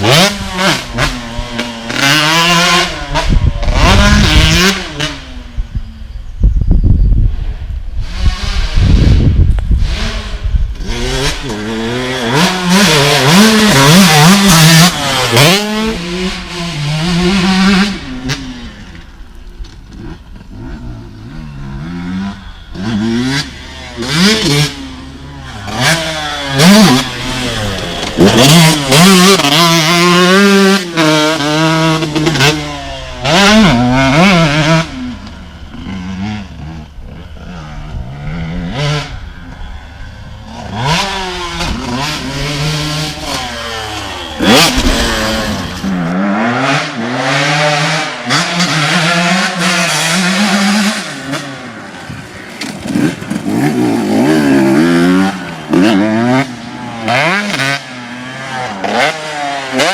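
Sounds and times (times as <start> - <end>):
motocross engine revving: 0.0 - 5.8, 7.4 - 59.9.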